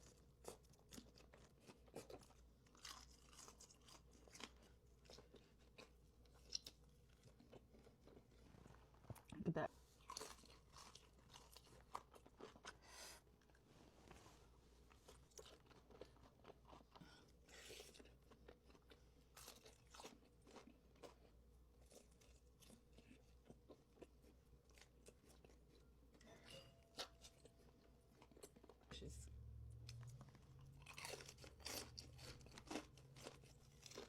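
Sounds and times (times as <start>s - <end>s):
crunching and chewing fried food: 0.0s - 34.0s.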